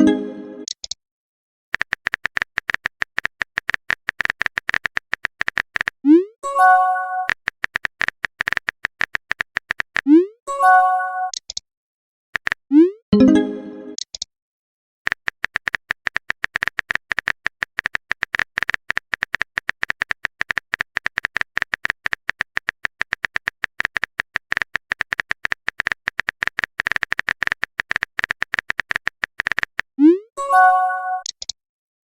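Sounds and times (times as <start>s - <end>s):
keyboard typing clicks: 0.0s - 1.0s, 1.8s - 6.0s, 7.2s - 10.2s, 11.3s - 11.6s, 12.4s - 14.3s, 15.1s - 29.9s, 31.1s - 31.6s.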